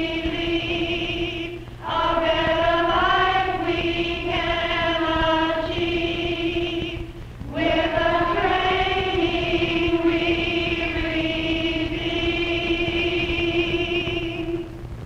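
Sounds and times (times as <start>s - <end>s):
choir singing held notes: 0.0s - 14.8s.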